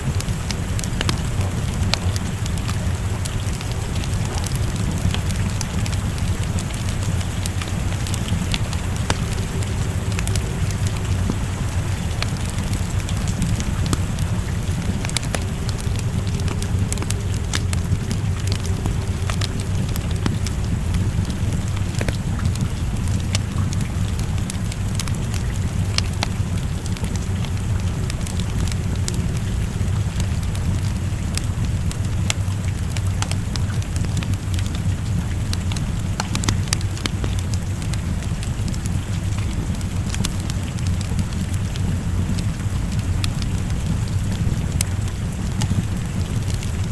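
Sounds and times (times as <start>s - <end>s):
deep low rumble: 0.0s - 46.9s
fire crackling and popping: 0.0s - 46.9s
rain rushing: 0.0s - 46.9s.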